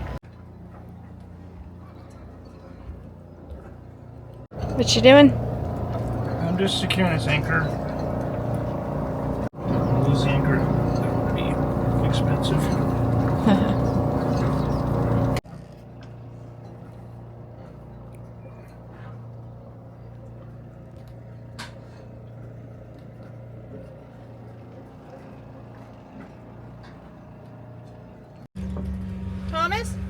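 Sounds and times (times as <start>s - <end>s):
boat diesel engine idling: 3.8s - 15.5s, 16.3s - 30.0s.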